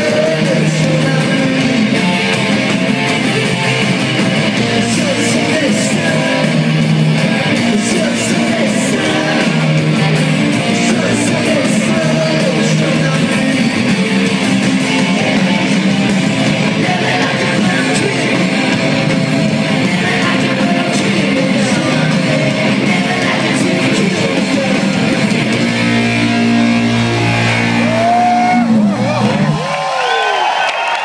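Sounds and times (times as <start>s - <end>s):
rock band playing live: 0.0s - 30.6s
loud electric guitar: 0.0s - 31.0s.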